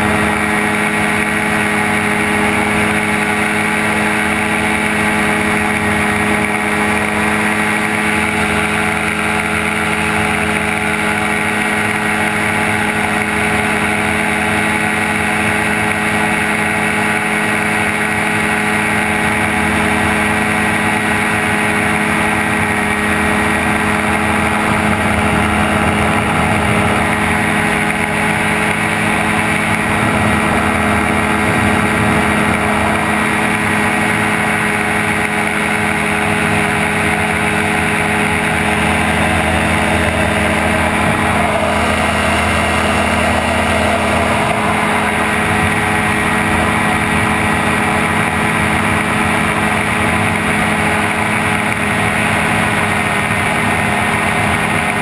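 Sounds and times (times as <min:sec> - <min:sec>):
gyrocopter engine and propeller drone: 0:00.0 - 0:55.0.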